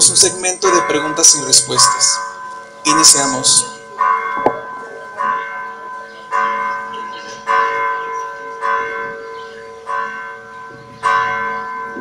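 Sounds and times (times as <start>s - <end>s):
church bell tolling: 0.0s - 12.0s.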